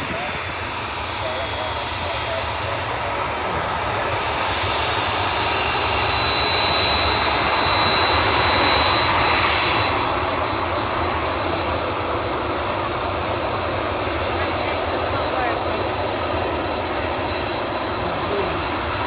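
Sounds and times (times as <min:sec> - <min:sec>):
high engine whine: 0:00.0 - 0:19.0
jet airliner engines roaring: 0:00.0 - 0:19.0.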